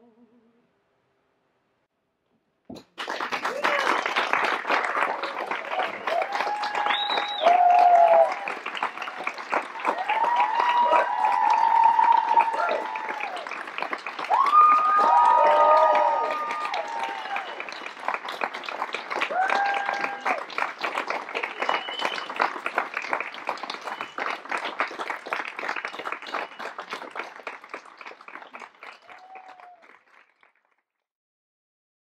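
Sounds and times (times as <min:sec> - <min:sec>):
audience applauding: 0:02.8 - 0:30.8.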